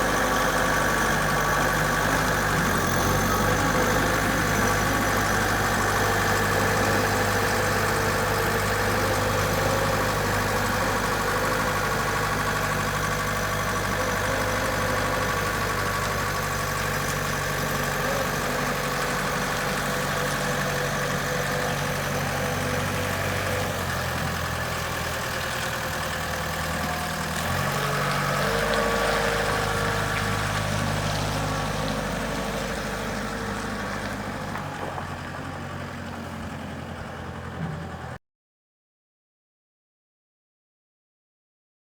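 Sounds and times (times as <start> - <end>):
wheel loader diesel engine running: 0.0 - 38.2.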